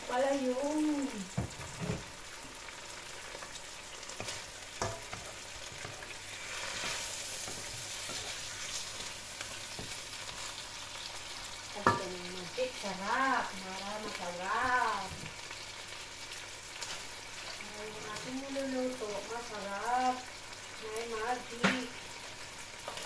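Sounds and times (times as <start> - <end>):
meat and onions sizzling: 0.0 - 23.0.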